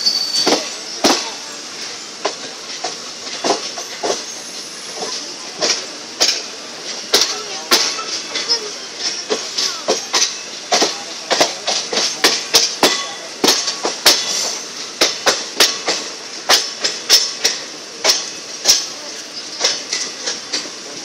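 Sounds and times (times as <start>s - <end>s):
train wheels clicking over rails: 0.0s - 21.0s.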